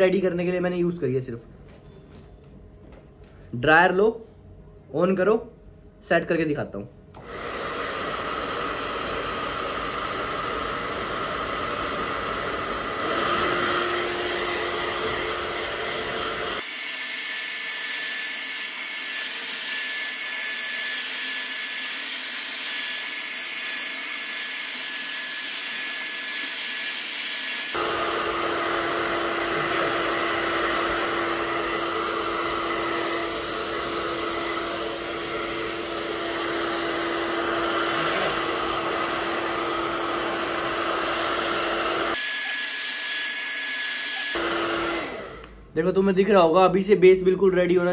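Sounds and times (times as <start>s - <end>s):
hair dryer blowing: 7.2s - 45.8s.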